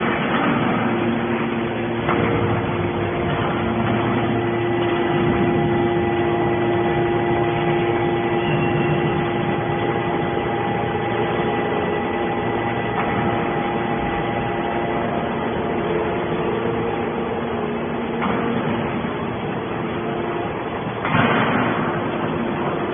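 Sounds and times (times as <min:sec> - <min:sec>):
hydraulic machine hum: 0:00.0 - 0:22.9.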